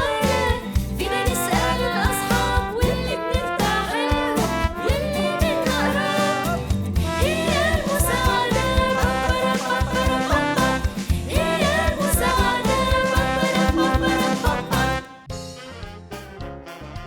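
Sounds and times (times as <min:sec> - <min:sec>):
upbeat children's song: 0:00.0 - 0:15.8.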